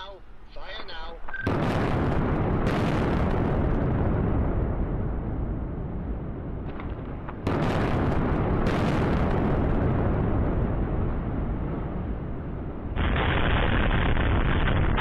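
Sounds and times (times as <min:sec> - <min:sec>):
demolition rumble: 0:00.0 - 0:15.0.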